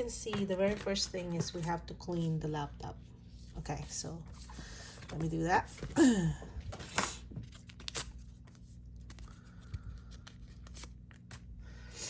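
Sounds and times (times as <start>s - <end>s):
soft rustling and handling: 0.0s - 11.5s.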